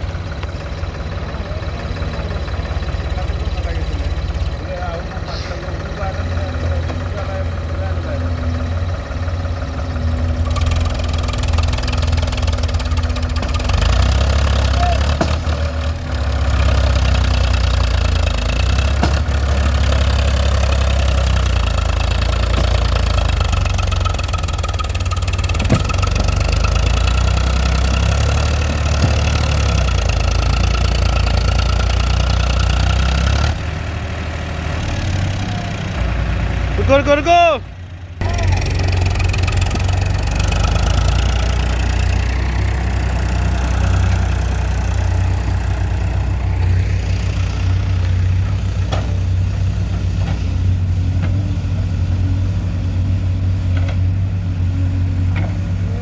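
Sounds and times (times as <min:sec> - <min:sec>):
diesel tractor engines rumbling: 0:00.0 - 0:56.0.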